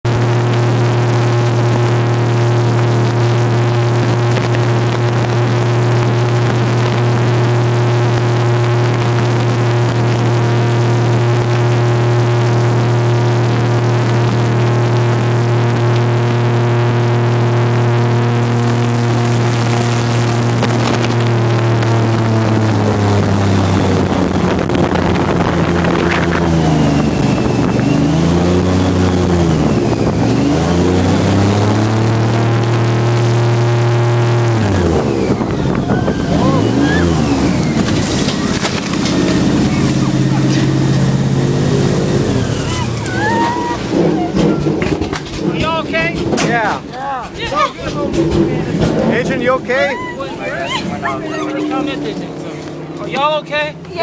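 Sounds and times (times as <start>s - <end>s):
airboat engine and propeller drone: 0.1s - 45.5s, 47.8s - 54.0s.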